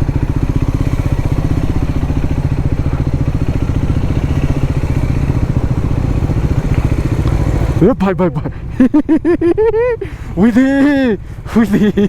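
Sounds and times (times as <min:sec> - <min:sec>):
single-cylinder engine running: 0:00.0 - 0:12.0.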